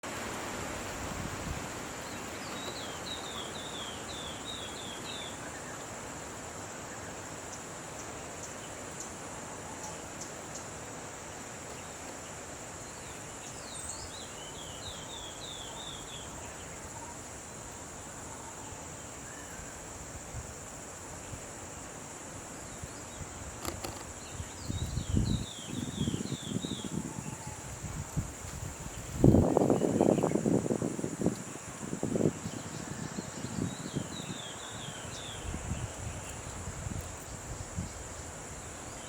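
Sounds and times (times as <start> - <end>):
high insect drone: 0.1 - 39.0.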